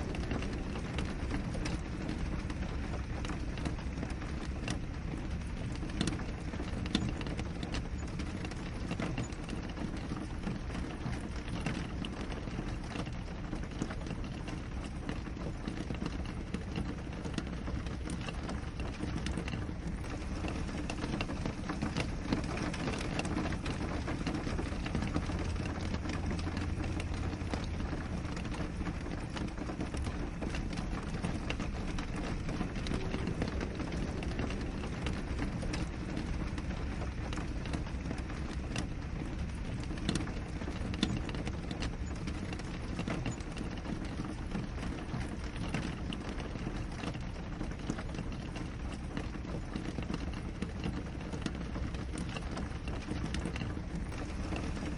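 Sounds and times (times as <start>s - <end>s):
rain on window glass: 0.0s - 54.9s.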